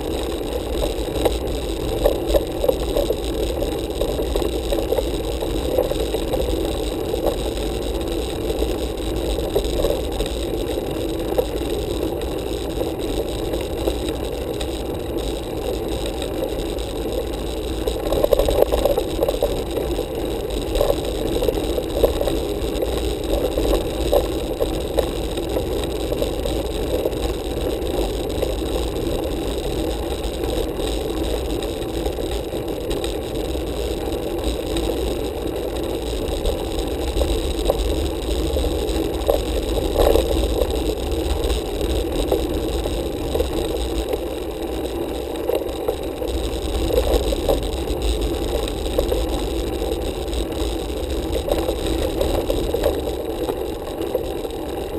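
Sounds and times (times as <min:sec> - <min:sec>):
bike rattles and clicks: 0:00.0 - 0:54.9
bike tyres rolling on asphalt: 0:00.0 - 0:54.9.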